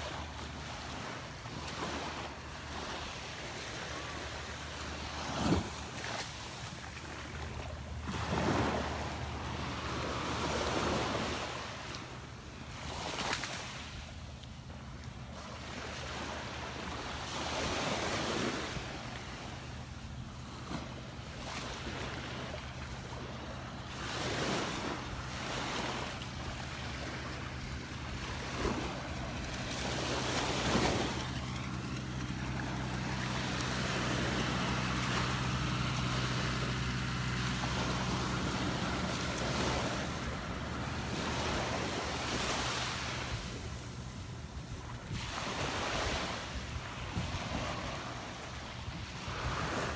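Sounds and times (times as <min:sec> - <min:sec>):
low steady hum: 0:00.0 - 0:49.9
small waves breaking on sand: 0:00.0 - 0:49.9.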